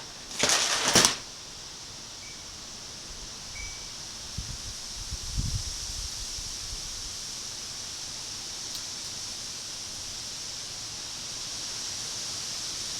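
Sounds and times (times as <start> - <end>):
outdoor ambience hiss: 0.0 - 12.9.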